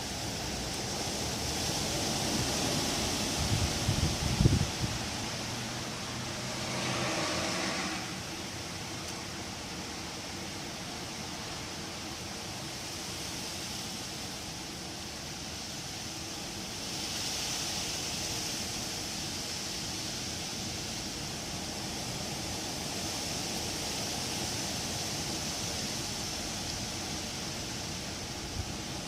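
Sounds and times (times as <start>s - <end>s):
wind rustling leaves: 0.0s - 29.0s.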